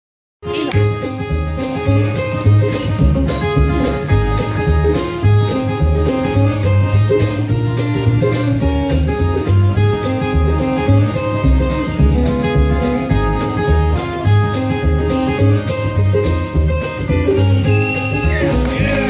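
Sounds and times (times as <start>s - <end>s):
picked acoustic guitar: 0.4s - 19.0s
upright bass: 0.4s - 19.0s
fiddle: 0.5s - 19.0s.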